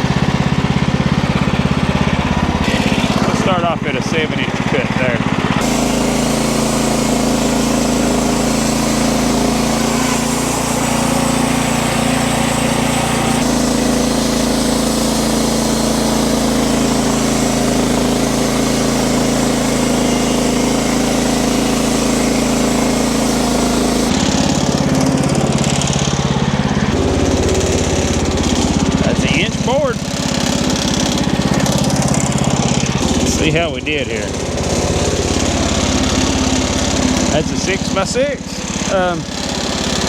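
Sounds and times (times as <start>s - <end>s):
sawmill engine running: 0.0s - 40.0s
band blade cutting wood: 1.8s - 40.0s.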